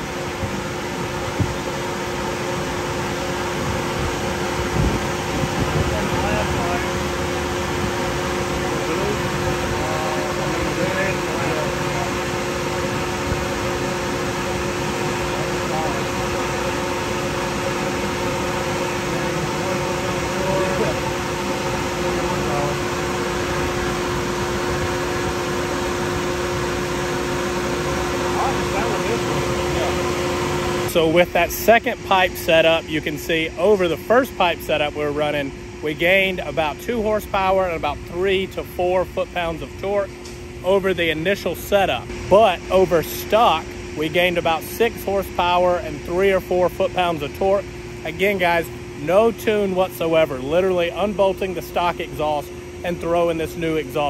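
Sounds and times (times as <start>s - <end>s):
constant hum: 0.0s - 54.0s
fan-like rushing noise: 0.0s - 54.0s.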